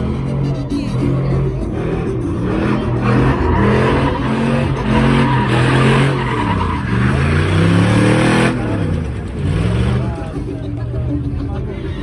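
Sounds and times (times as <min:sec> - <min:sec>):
engine revving: 0:00.0 - 0:11.8
tyres squealing: 0:00.5 - 0:11.0.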